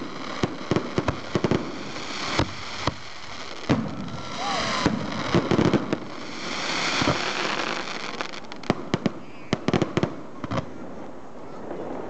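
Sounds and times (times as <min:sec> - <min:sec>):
firework hissing crackle: 0:00.0 - 0:10.2.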